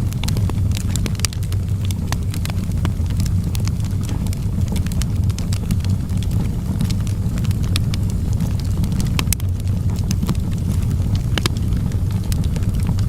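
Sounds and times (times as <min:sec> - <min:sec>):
fire crackles and pops: 0:00.0 - 0:13.0
fire flames rumbling: 0:00.0 - 0:13.0.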